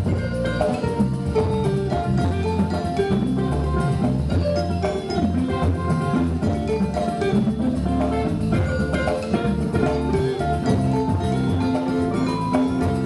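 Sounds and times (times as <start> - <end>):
drum kit: 0.0 - 13.0
electric guitar lead: 0.0 - 13.0
live band music: 0.0 - 13.0.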